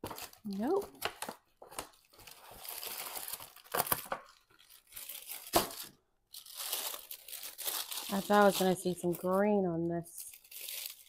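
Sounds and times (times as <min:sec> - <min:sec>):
packaging rustling: 0:00.0 - 0:09.6, 0:10.2 - 0:11.0.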